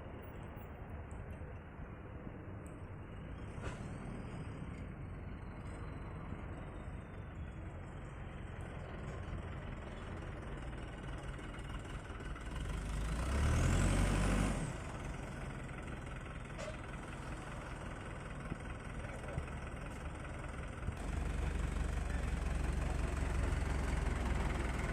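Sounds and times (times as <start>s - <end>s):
diesel truck engine running: 2.9s - 24.9s.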